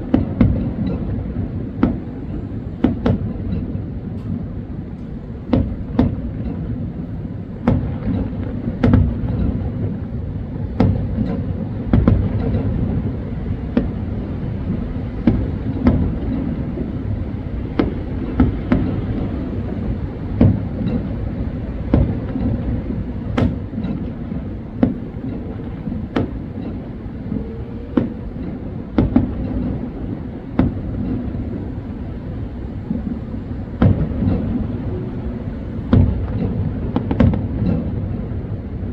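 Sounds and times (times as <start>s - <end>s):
distant fireworks exploding: 0.0s - 38.9s.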